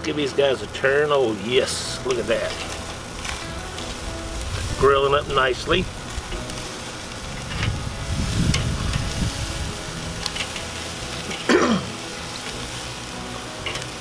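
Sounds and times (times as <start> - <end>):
meat sizzling over charcoal: 0.0 - 14.0.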